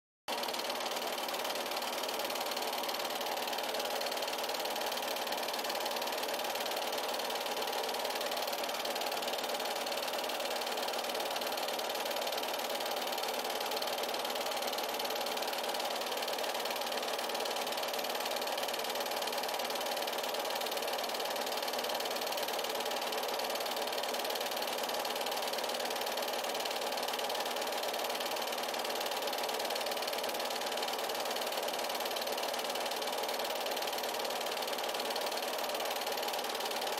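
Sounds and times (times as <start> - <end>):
film projector running: 0.3 - 36.9.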